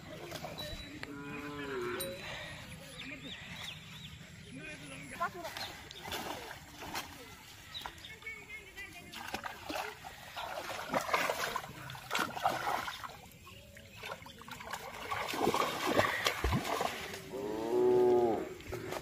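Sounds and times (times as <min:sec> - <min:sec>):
bare feet wading in water: 0:00.0 - 0:19.0
muddy water splashing: 0:00.0 - 0:19.0.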